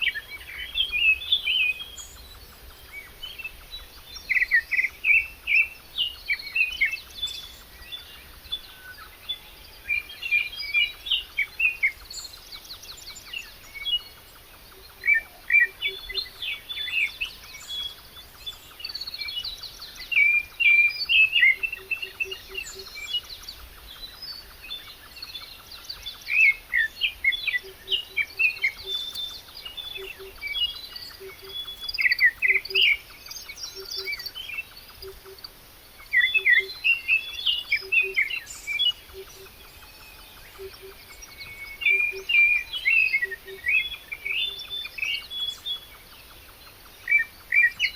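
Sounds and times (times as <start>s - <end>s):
wild birds chirping and singing: 0.0s - 47.9s.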